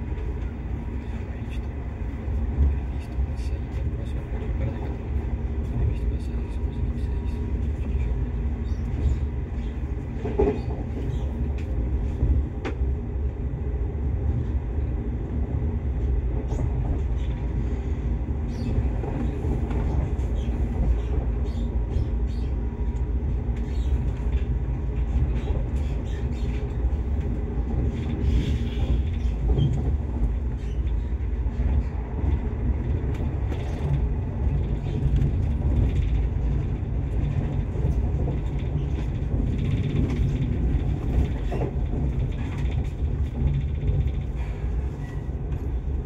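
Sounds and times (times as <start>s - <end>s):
train rumbling along track: 0.0s - 46.0s.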